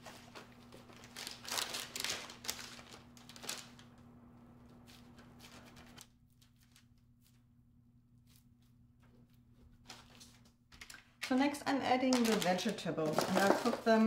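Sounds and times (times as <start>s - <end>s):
parchment paper rustling: 0.0s - 14.0s.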